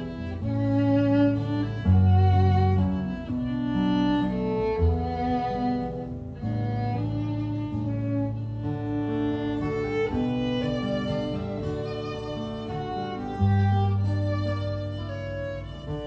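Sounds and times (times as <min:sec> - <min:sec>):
guitar accompaniment: 0:00.0 - 0:16.0
violin melody: 0:00.0 - 0:16.0.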